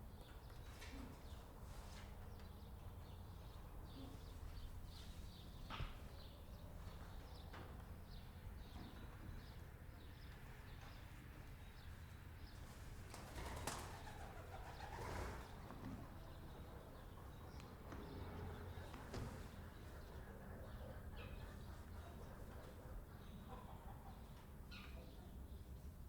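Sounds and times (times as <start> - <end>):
small birds chirping: 2.2 - 25.8.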